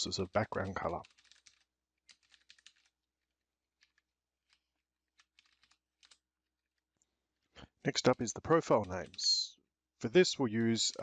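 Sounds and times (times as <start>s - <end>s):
faint keyboard typing: 0.1s - 9.5s, 10.1s - 11.0s.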